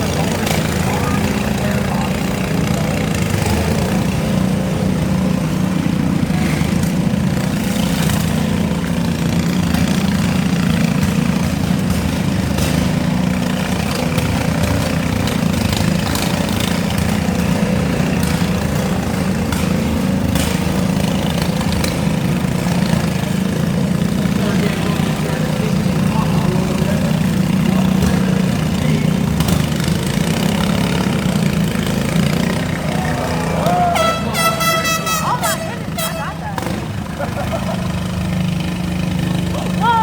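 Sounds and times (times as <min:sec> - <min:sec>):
lawn mower engines running: 0:00.0 - 0:40.0.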